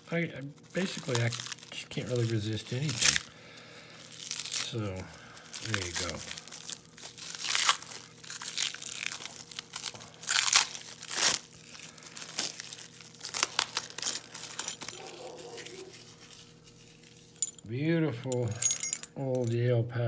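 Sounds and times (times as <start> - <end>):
plastic wrap crinkling and tearing: 0.0 - 17.5.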